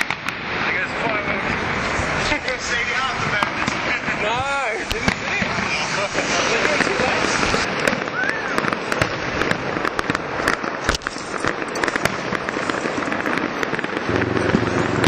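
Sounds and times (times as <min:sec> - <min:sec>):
fireworks crackling and popping: 0:00.0 - 0:15.0
loud firework bang: 0:00.0 - 0:15.0.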